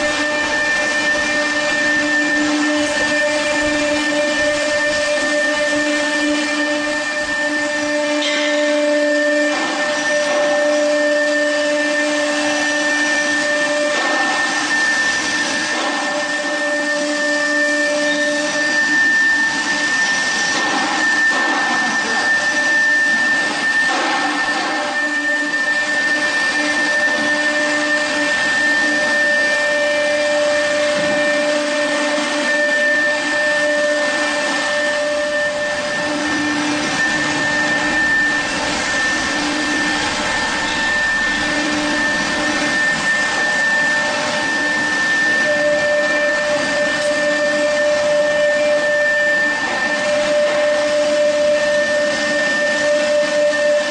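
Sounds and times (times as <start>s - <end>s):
cnc router spindle whine: 0.0s - 53.9s
wood cutting noise: 0.0s - 53.9s.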